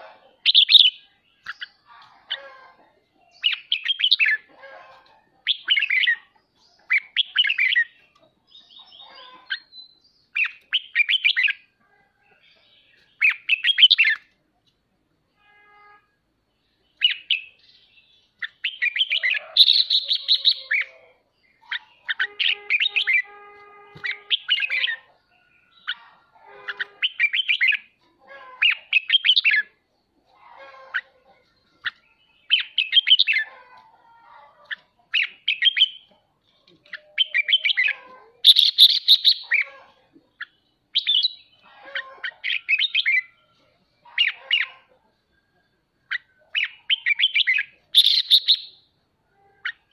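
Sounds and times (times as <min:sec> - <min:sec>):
bird chattering song: 0:00.0 - 0:14.4, 0:16.6 - 0:33.6, 0:34.6 - 0:45.0, 0:46.0 - 0:49.0.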